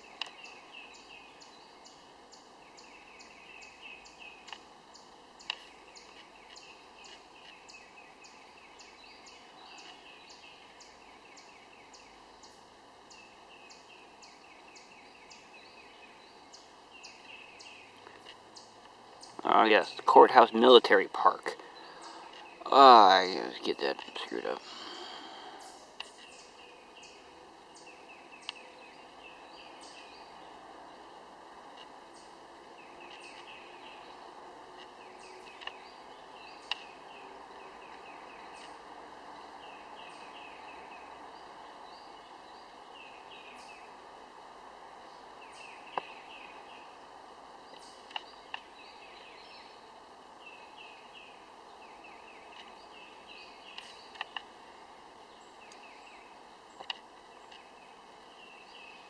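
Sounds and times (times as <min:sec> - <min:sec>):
bird singing: 0:00.0 - 0:59.0
outdoor background noise: 0:00.0 - 0:59.0.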